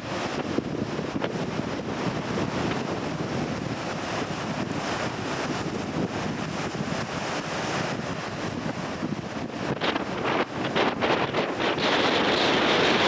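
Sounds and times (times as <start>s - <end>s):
surf breaking on rocky shore: 0.0s - 13.0s
wind buffeting microphone: 0.0s - 13.0s.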